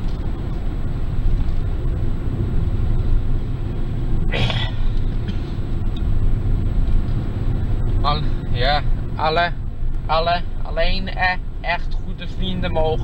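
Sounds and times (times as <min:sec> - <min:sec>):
car driving interior rumble: 0:00.0 - 0:13.0.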